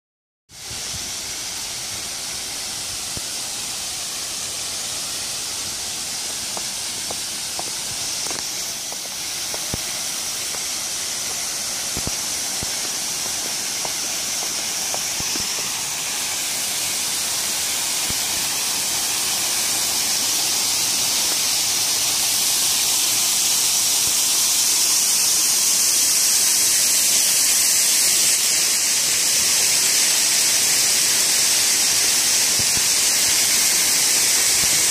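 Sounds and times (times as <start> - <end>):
waterfall splashing into pond: 0.5 - 34.9.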